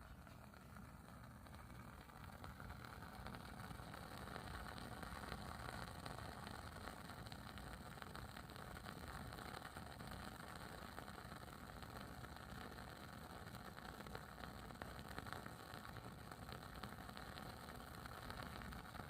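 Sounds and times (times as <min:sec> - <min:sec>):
candle wick crackling: 0:00.0 - 0:19.0.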